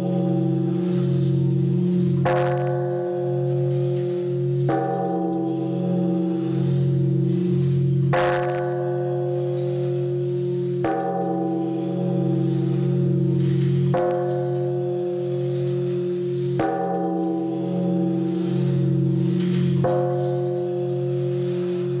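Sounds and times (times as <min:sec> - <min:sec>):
large bell struck with wooden log: 0:00.0 - 0:22.0.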